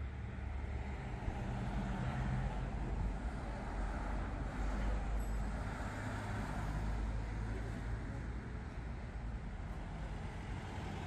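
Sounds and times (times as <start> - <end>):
vehicles passing: 0.0 - 11.0.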